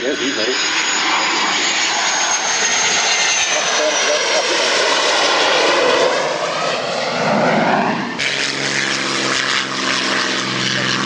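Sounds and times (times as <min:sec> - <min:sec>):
aircraft rushing past: 0:00.0 - 0:11.0
propeller aircraft engine drone: 0:00.0 - 0:11.0.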